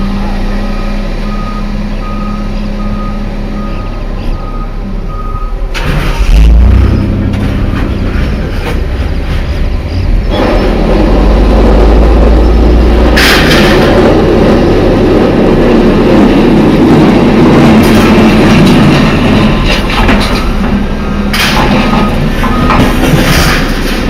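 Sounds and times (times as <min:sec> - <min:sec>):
vehicle engine rumbling and rattling: 0:00.0 - 0:24.0.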